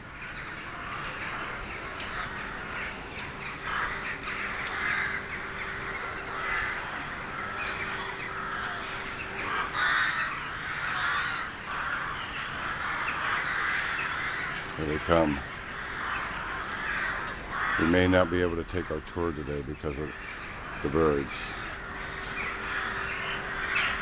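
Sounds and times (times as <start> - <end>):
flock of crows cawing: 0.0 - 24.0.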